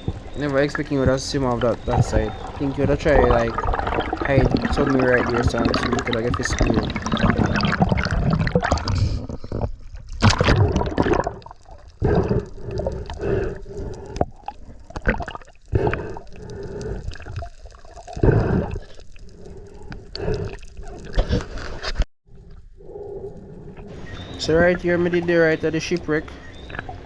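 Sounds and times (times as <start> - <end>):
water gurgling underwater: 0.0 - 21.9, 25.9 - 27.0.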